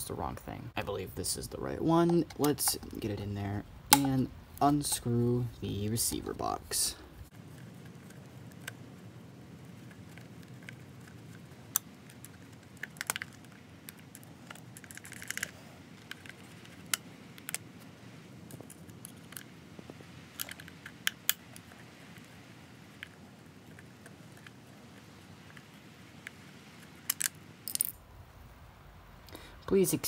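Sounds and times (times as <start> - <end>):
low room hiss: 0.0 - 30.0.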